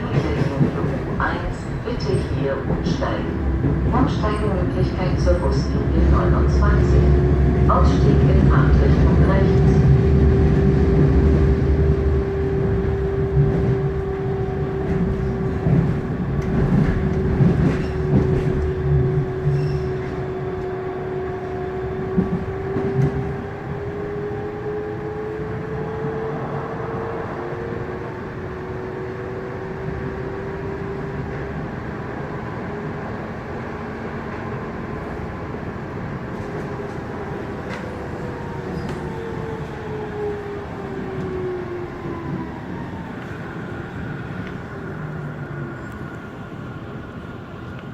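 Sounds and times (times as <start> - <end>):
train wheel rumble: 0.0 - 47.9.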